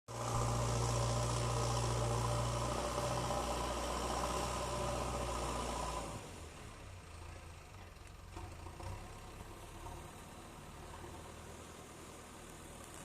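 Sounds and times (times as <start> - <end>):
excavator diesel engine running: 0.1 - 13.0.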